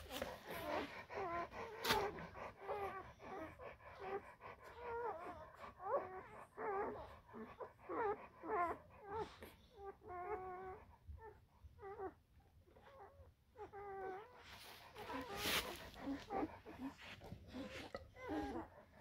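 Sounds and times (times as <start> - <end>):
puppies squeaking and whimpering: 0.0 - 19.0.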